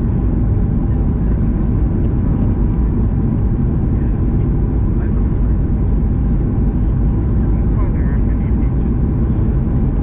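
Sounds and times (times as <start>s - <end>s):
airliner engines roaring in cabin: 0.0s - 10.0s.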